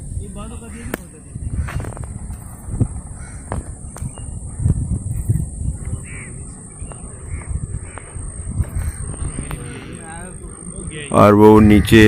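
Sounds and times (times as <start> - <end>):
low uneven rumble: 0.0 - 12.0
bird harsh calls: 0.6 - 12.0.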